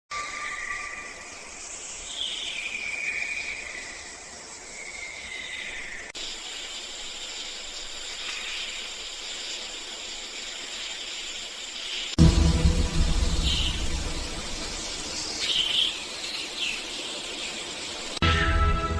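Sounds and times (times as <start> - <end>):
outdoor hiss: 0.9 - 18.9.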